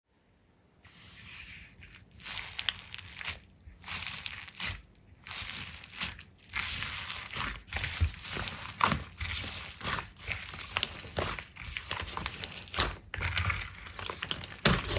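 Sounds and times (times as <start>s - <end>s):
slime crackling and crunching: 0.9s - 14.9s.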